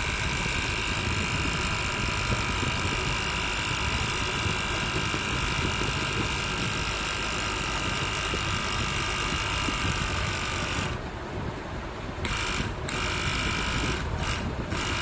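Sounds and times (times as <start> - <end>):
air compressor whining: 0.0 - 15.0.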